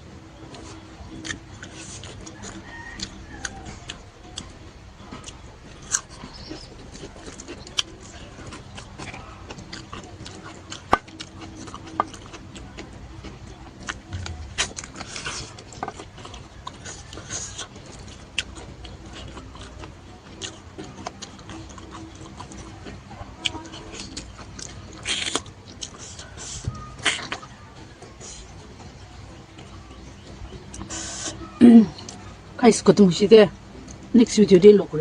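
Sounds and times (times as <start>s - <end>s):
person chewing with mouth smacks: 0.4s - 29.0s.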